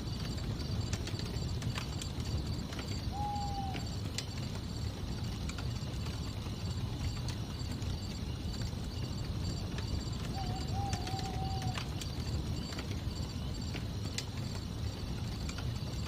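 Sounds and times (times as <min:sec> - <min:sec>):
crickets chirping: 0:00.0 - 0:16.0
low steady rumble: 0:00.0 - 0:16.0
wood crackling and popping: 0:00.0 - 0:16.0.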